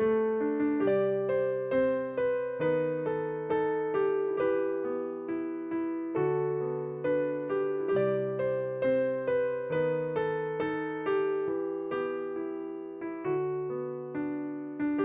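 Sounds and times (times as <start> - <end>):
slow hymn melody on piano: 0.0 - 15.0.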